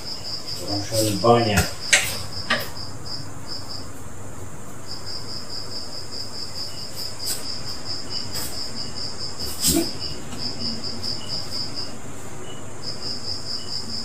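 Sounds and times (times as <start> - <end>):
cricket chirping: 0.0 - 4.2, 4.8 - 14.0.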